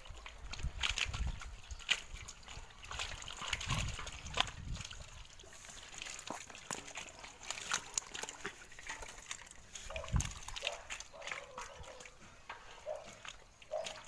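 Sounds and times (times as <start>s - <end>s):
fish flopping in metal basin: 0.0s - 14.0s
water splashing: 0.0s - 14.0s.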